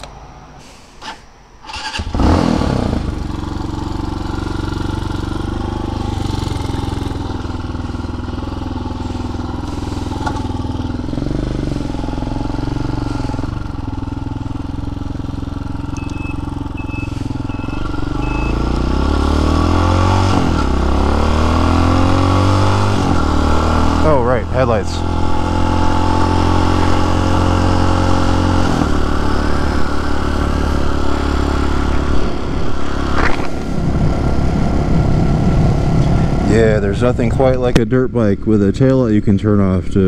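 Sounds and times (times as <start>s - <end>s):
dirt bike engine starting and idling: 0.0s - 40.0s
dirt bike engine revving: 1.6s - 37.6s.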